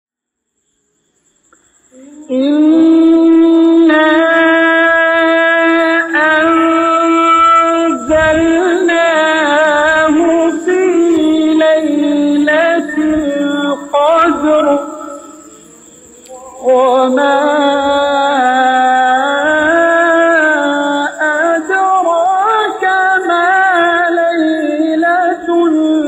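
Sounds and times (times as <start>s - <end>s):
solo voice chanting: 1.6s - 26.0s.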